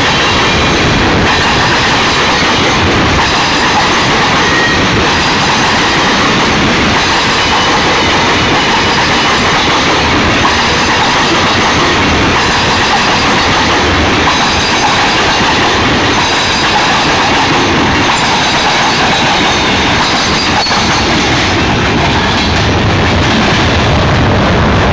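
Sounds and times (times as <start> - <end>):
steel wheels clattering on rail: 0.0 - 24.3.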